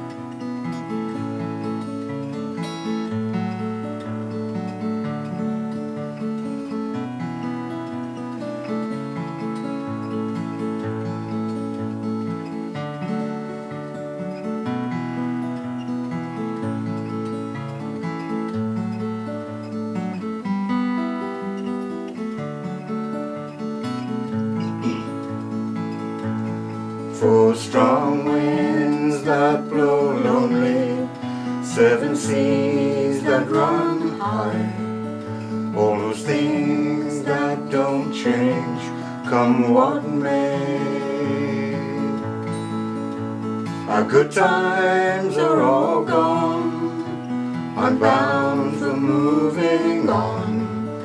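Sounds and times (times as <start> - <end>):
acoustic guitar strumming chords: 0.0 - 51.0.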